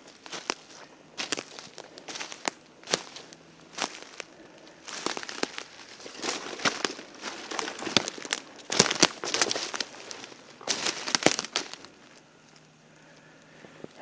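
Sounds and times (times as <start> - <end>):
footsteps crunching dry leaves: 0.0 - 13.8.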